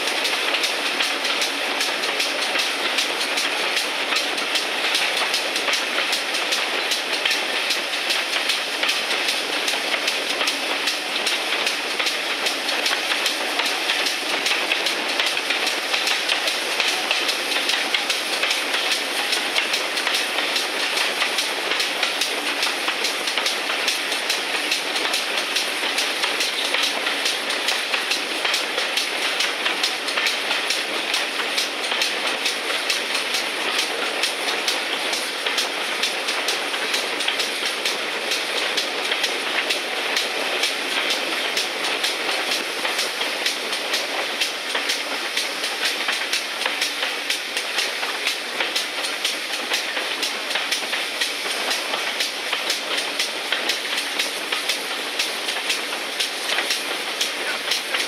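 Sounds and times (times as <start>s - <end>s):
train wheels rumbling on track: 0.0s - 58.0s
wheels clicking on rails: 0.0s - 58.0s.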